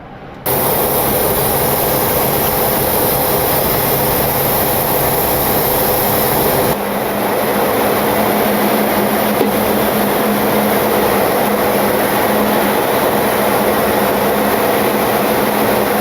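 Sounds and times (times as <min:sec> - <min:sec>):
faint hum: 0:00.0 - 0:16.0
aircraft engine noise: 0:00.4 - 0:16.0
rushing air: 0:00.4 - 0:16.0.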